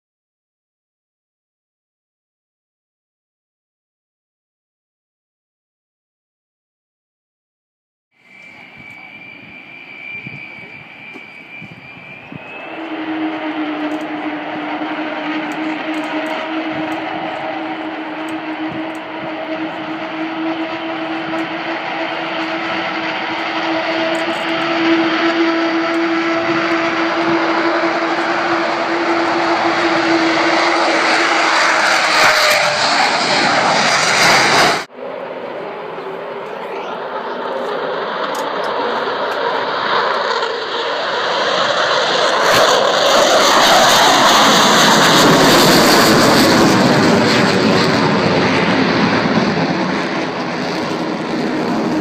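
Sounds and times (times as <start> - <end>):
aircraft engines running: 8.2 - 52.0.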